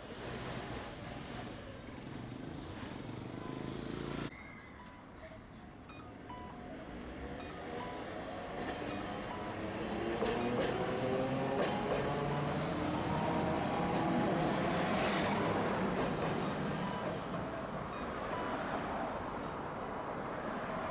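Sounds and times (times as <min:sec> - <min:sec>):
streetcar rumbling on tracks: 0:00.0 - 0:20.9.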